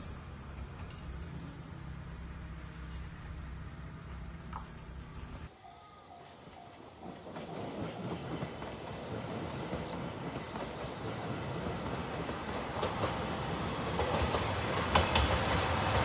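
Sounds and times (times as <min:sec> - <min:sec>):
diesel train approaching: 0:00.0 - 0:16.0.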